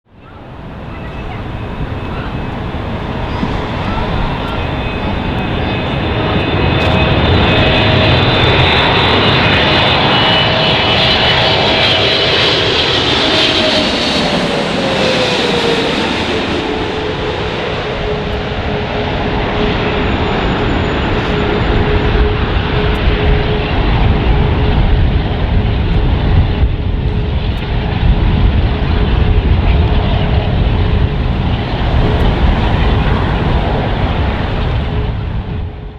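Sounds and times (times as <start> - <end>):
jet airliner engines whine and rumble: 0.1 - 35.9.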